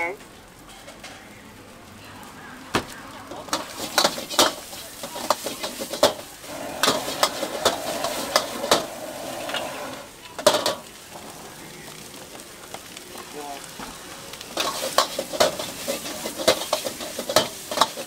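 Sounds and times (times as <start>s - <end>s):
frying sizzle: 0.0s - 18.0s.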